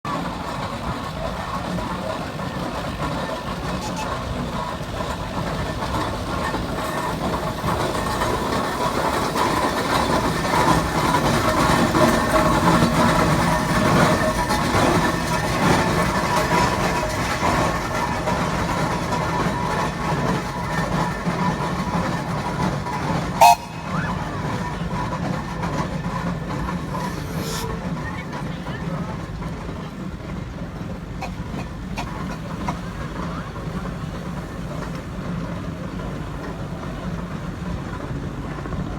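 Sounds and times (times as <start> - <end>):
steam traction engine running: 0.1 - 38.9.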